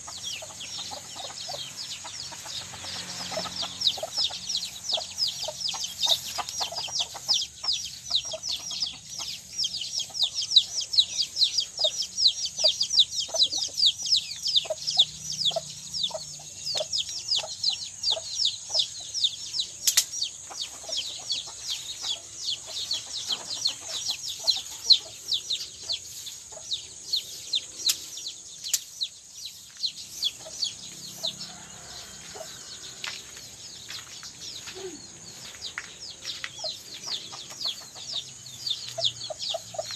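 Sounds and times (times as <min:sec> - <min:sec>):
chickens chirping and clucking: 0:00.0 - 0:39.9.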